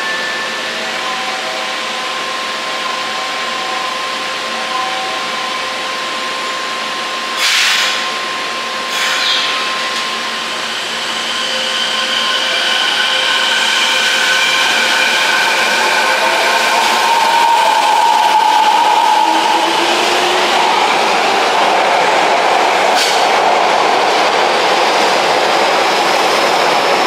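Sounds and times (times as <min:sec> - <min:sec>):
train running rush: 0:00.0 - 0:27.0.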